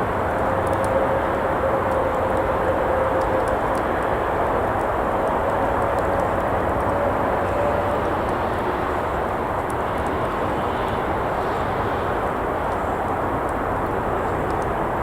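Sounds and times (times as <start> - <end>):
campfire crackles: 0.0 - 15.0
road traffic roar: 0.0 - 15.0.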